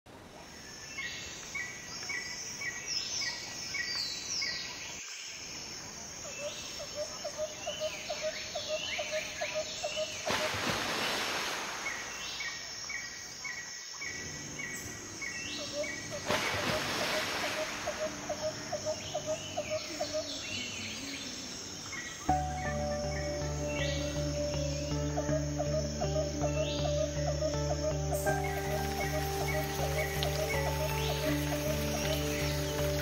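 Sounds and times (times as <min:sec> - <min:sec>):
steady outdoor hiss: 0:00.1 - 0:33.0.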